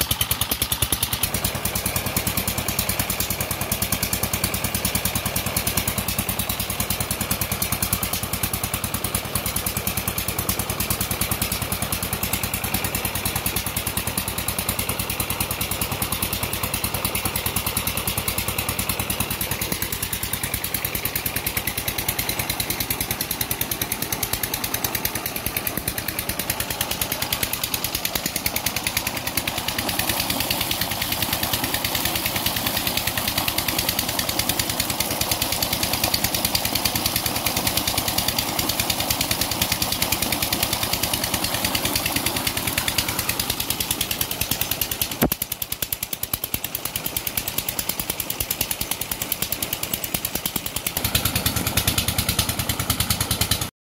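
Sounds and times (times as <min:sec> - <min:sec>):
diesel engine running: 0:00.0 - 0:53.7
water pouring from a pipe: 0:00.0 - 0:53.7.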